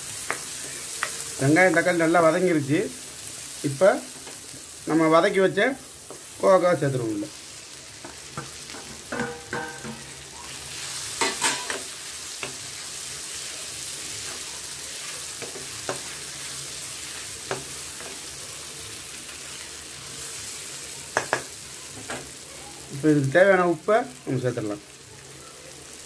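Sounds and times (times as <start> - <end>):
oil sizzling in a pan: 0.0 - 26.0.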